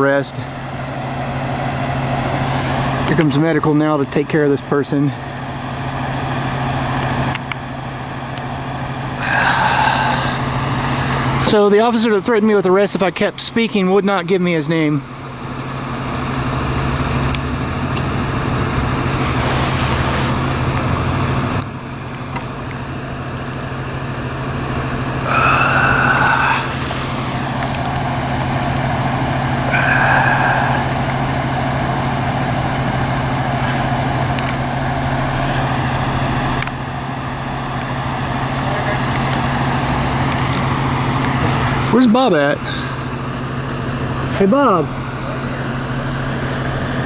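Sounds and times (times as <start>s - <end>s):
large vehicle engine idling: 0.0s - 47.0s
street traffic: 0.0s - 47.0s.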